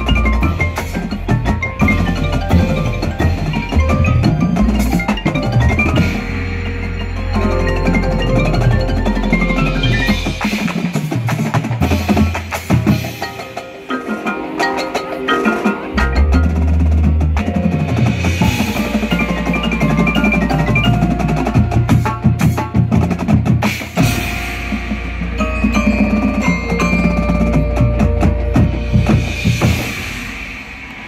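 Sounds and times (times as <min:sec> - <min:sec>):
marimbas and vibraphone: 0:00.0 - 0:30.8
drums: 0:00.0 - 0:31.0.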